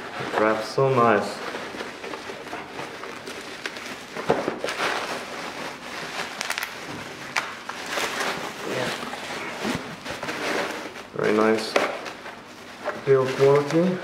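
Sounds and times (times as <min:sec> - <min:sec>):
bubble wrap rustling and crackling: 0:00.0 - 0:14.0.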